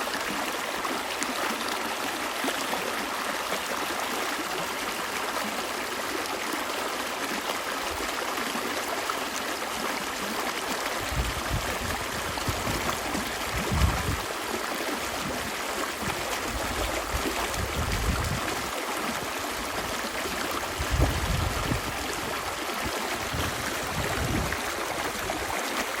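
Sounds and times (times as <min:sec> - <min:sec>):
stream water gurgling: 0:00.0 - 0:26.0.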